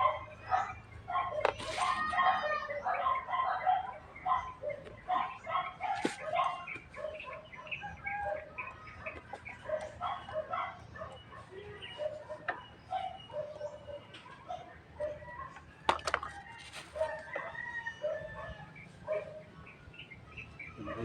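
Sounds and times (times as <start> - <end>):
birds chirping: 0.0 - 21.0
chickens clucking: 0.0 - 21.0.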